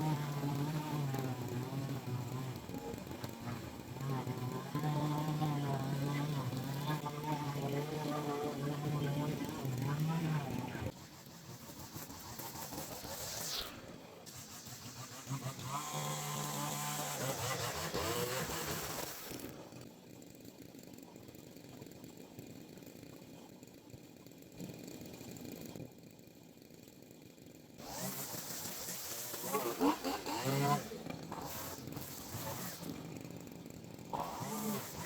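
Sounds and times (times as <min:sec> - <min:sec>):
small petrol engine running: 0:00.0 - 0:35.0.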